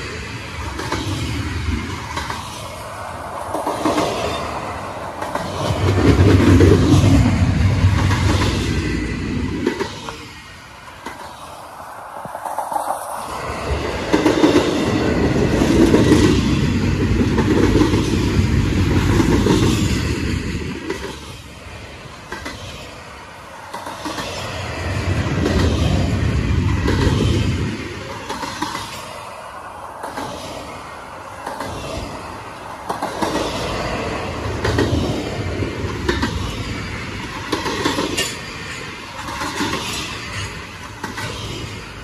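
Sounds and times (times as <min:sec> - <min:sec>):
freight train wheels clattering: 0:00.0 - 0:29.3, 0:30.0 - 0:42.0.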